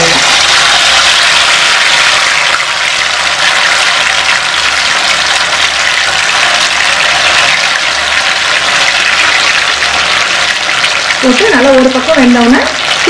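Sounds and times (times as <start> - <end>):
fish deep-frying in bubbling oil: 0.0 - 13.0.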